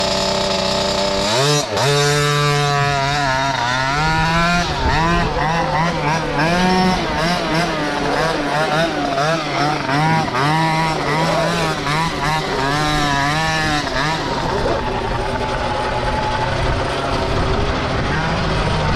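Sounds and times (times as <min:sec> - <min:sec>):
two-stroke engine revving: 0:00.0 - 0:18.9.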